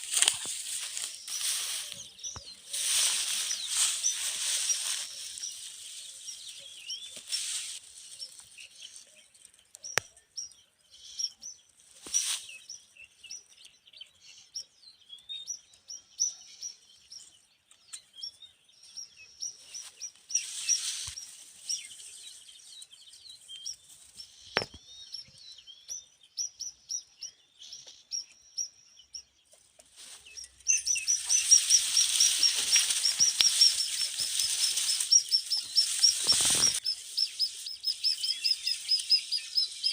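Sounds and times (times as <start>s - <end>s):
nestlings chirping: 0.0s - 13.7s, 15.4s - 39.9s.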